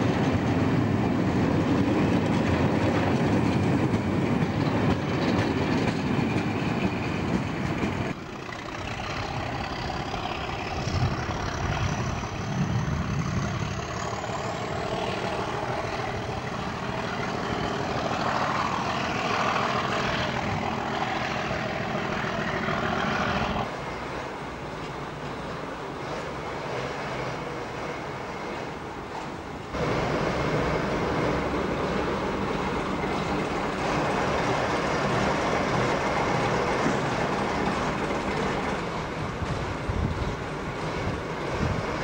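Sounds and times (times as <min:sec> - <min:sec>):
diesel locomotive engine working hard: 0:00.0 - 0:42.0.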